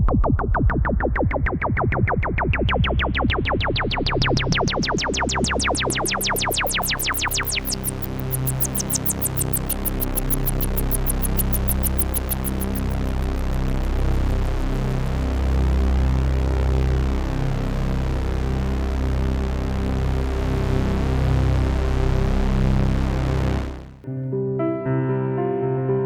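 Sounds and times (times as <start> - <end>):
low bass drone: 0.0 - 24.0
synthesizer repeating pulses: 0.0 - 24.0.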